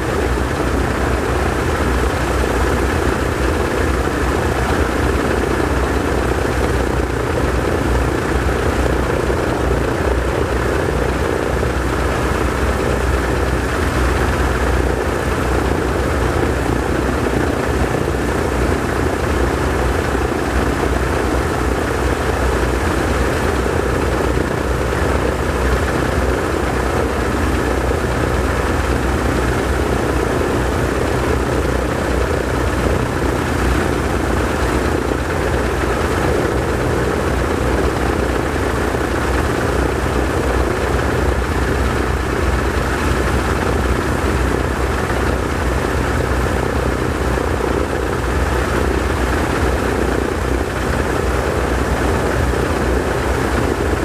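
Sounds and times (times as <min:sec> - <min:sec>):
radial aircraft engines droning: 0:00.0 - 0:54.0.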